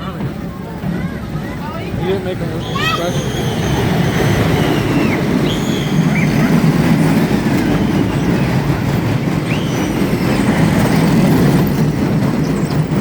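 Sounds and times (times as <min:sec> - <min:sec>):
wheels rumbling on rail track: 0:00.0 - 0:13.0
high wheel squeals: 0:02.3 - 0:13.0.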